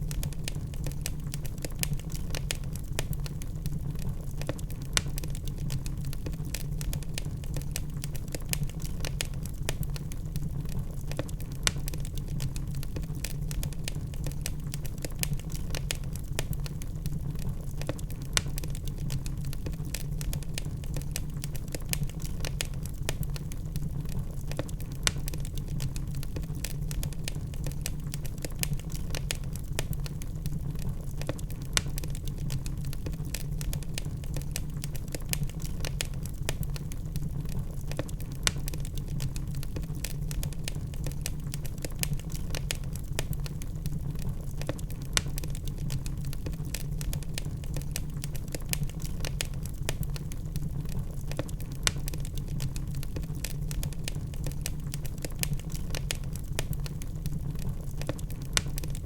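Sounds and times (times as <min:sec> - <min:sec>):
fire crackling: 0:00.0 - 0:59.0
fire low rumble: 0:00.0 - 0:59.0
fire popping: 0:00.0 - 0:59.0.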